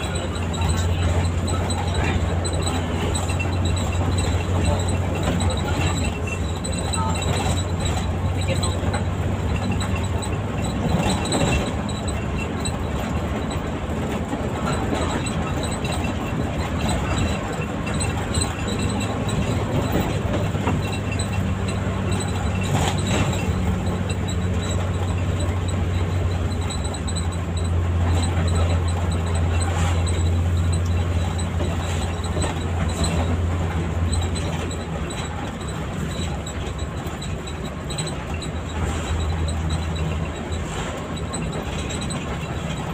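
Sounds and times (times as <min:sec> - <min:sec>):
bus engine drone: 0:00.0 - 0:42.9
rattles and knocks from bus body: 0:00.0 - 0:42.9
road noise: 0:00.0 - 0:42.9.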